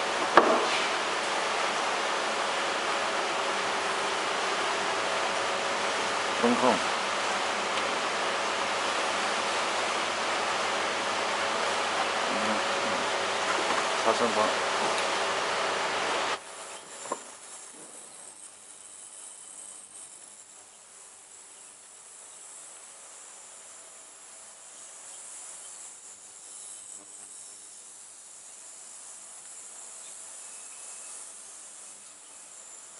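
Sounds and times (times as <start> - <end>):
faint thin whine: 0.0 - 32.9
ultrasonic cleaning tank hiss: 0.0 - 32.9.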